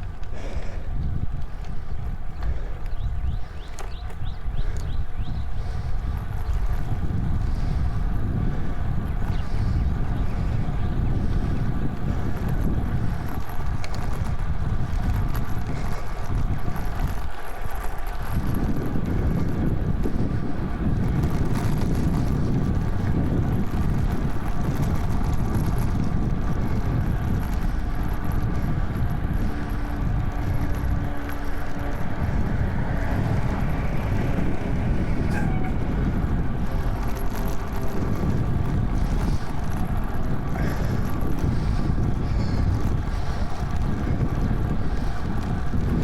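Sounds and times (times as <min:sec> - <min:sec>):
wind rumble on microphone: 0:00.0 - 0:46.0.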